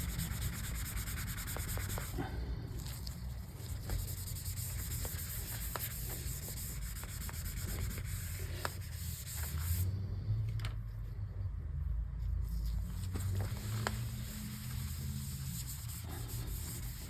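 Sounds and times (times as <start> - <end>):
scratchy scrubbing on laptop casing: 0.0 - 9.9, 12.8 - 17.0.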